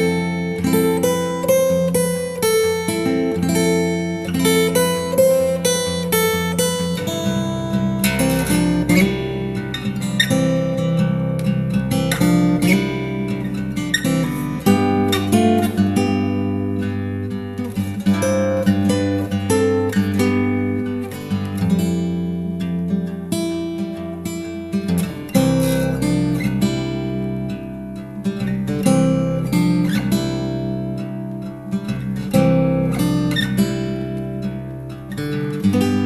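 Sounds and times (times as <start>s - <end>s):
acoustic guitar strummed and picked: 0.0s - 36.0s.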